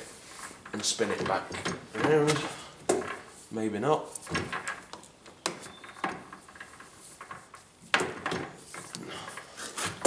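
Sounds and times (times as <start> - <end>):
metal clunks and knocks: 0.6 - 3.3, 4.2 - 10.0.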